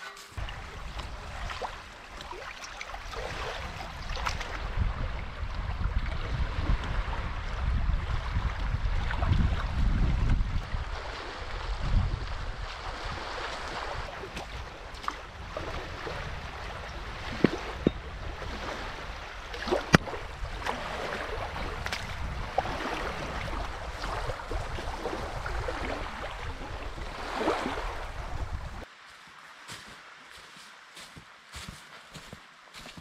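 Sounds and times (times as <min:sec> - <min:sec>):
small waves washing on shore: 0:00.0 - 0:30.4
wind on microphone: 0:00.4 - 0:28.9.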